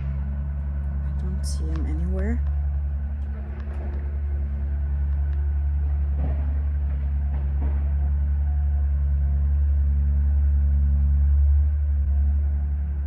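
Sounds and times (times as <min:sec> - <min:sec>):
loud low mechanical drone: 0:00.0 - 0:13.0.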